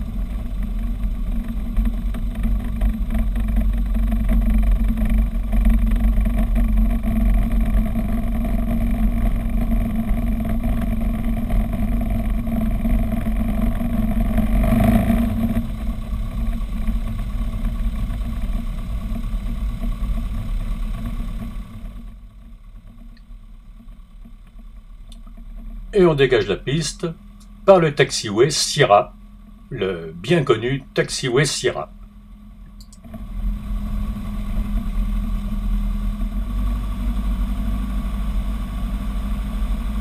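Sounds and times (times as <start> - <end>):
propeller aircraft engine drone: 0.0 - 40.0.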